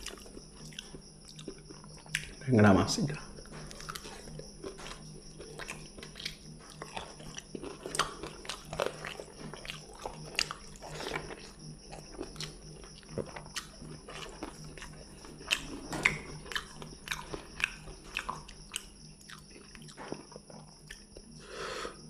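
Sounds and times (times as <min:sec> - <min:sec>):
wet chewing: 0:00.0 - 0:02.4, 0:03.4 - 0:21.4
crunching while eating: 0:00.0 - 0:22.0
steady low hum: 0:00.0 - 0:22.0.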